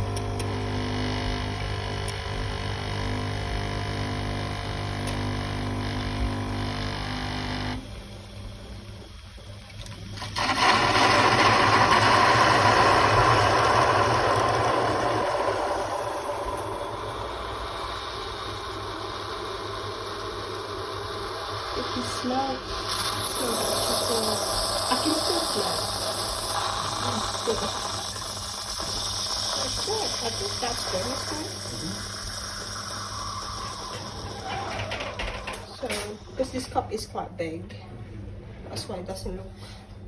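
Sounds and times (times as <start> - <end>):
pod machine pump humming: 0.0 - 37.0.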